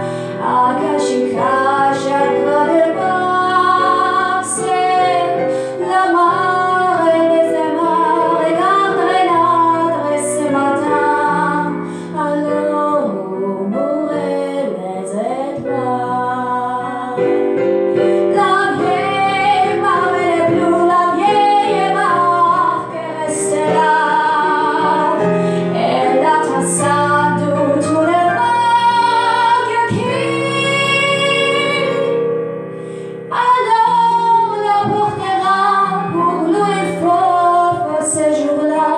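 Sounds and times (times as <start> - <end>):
woman singing into a microphone: 0.0 - 32.2, 33.3 - 38.9
digital piano: 0.0 - 38.9.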